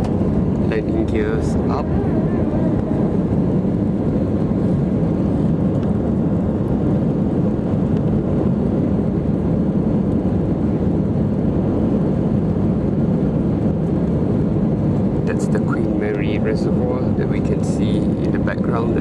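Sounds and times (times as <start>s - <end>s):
jet engines roaring: 0.0s - 19.0s
rushing airflow: 0.0s - 19.0s.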